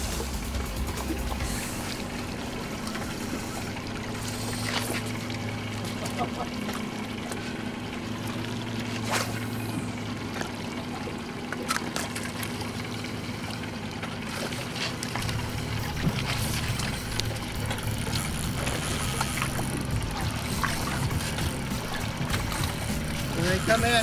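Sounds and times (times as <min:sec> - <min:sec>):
small splashes: 0:00.0 - 0:24.0
steady low hum: 0:00.0 - 0:24.0
water lapping against boat hull: 0:00.0 - 0:24.0.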